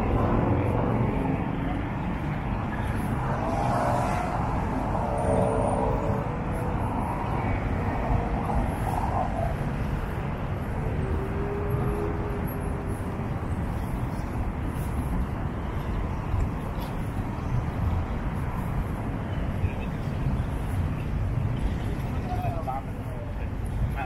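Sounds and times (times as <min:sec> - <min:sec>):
city street traffic rumble: 0:00.0 - 0:24.0
passing vehicle engines: 0:00.0 - 0:24.0.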